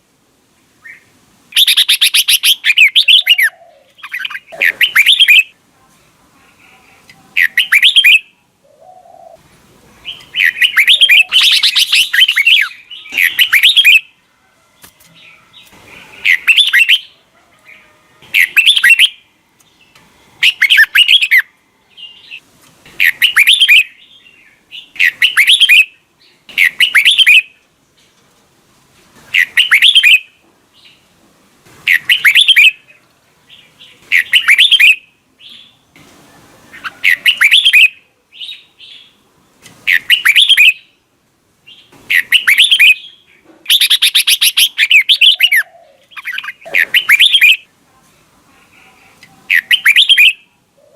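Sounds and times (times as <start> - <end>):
bird chirping song: 0.8 - 5.6, 6.5 - 14.2, 14.8 - 27.6, 29.3 - 31.1, 31.9 - 39.2, 39.8 - 41.0, 41.6 - 47.7, 48.7 - 50.9.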